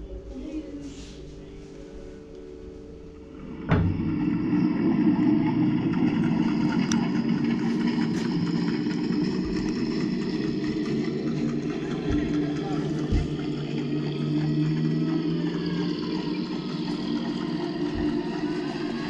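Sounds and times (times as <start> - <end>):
constant low hum: 0.0 - 19.0
engine-like drone: 2.7 - 19.0.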